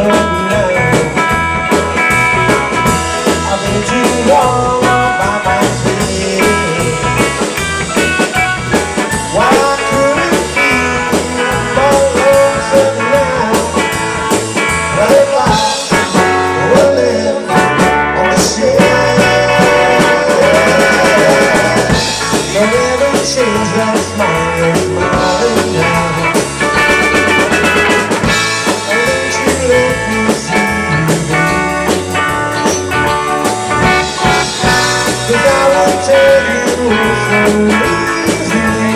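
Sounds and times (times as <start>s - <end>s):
bass guitar: 0.0s - 38.9s
drum kit: 0.0s - 38.9s
electric guitars: 0.0s - 38.9s
keyboard: 0.0s - 38.9s.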